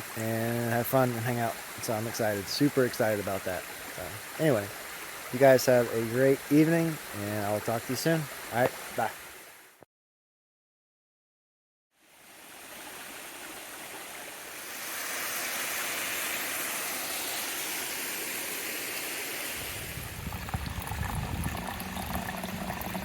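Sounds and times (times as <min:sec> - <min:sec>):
creek water running over rocks: 0:00.0 - 0:09.8, 0:12.0 - 0:23.0.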